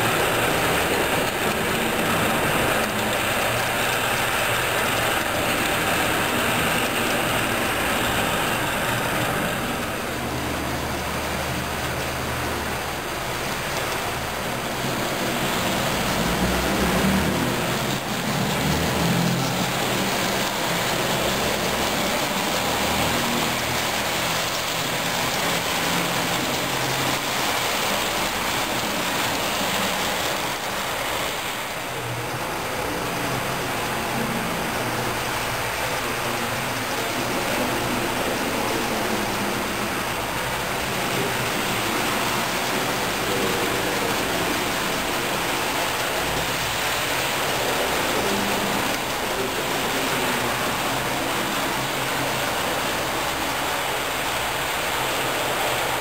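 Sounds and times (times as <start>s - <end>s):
model train rolling and whirring: 0.0s - 56.0s.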